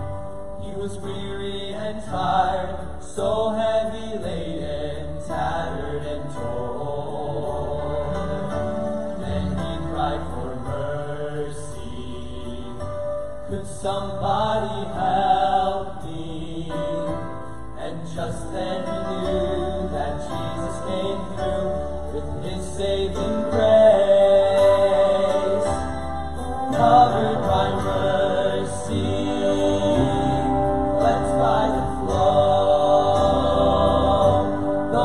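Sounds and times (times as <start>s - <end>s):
male vocal group singing in harmony: 0.0s - 35.0s.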